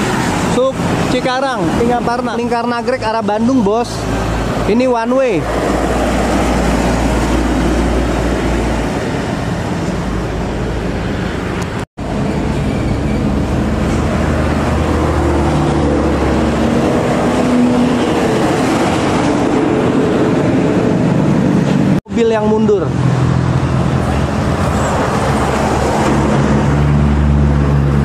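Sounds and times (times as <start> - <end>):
road traffic passing: 0.0 - 28.0.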